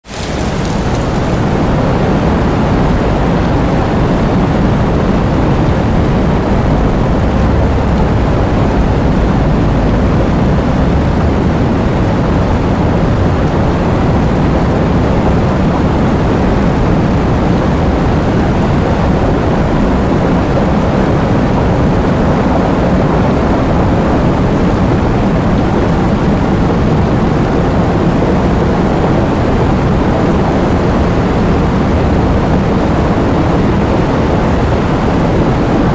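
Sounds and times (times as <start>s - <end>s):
heavy rain roaring: 0.0s - 35.9s
deep low thunder rumble: 0.4s - 35.9s.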